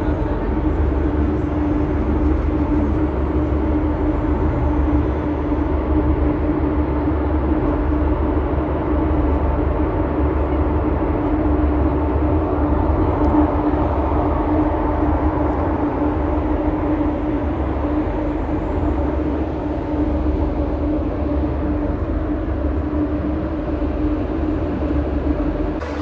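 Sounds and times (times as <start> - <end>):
ferry engine drone: 0.0 - 26.0.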